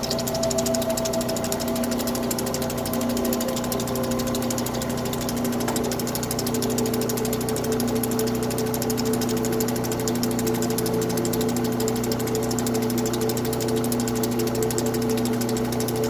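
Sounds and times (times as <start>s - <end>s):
grinding wheel motor hum: 0.0s - 16.0s.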